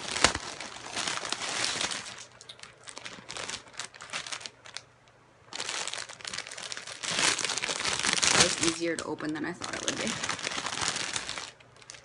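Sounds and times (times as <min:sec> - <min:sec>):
plastic bag crinkling: 0:00.0 - 0:04.9, 0:05.5 - 0:12.0.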